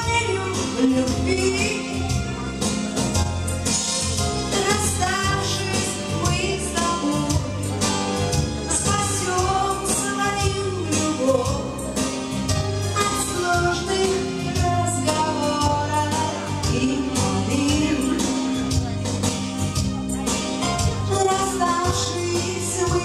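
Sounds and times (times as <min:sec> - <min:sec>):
dance music with singer: 0:00.0 - 0:23.0.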